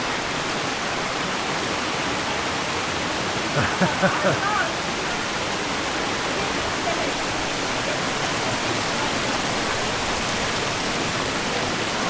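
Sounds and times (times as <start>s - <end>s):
rushing creek water: 0.0s - 12.0s.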